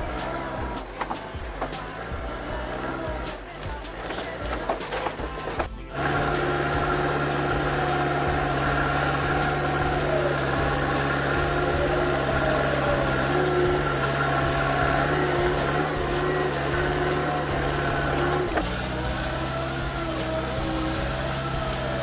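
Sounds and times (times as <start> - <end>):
diesel engine low drone: 0.0 - 22.0
wavering drivetrain whine: 0.0 - 22.0.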